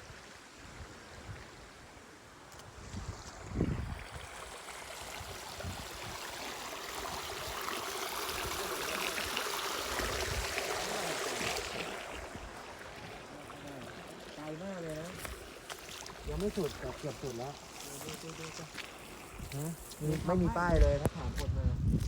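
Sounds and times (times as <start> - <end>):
stream water rushing: 0.0 - 21.4.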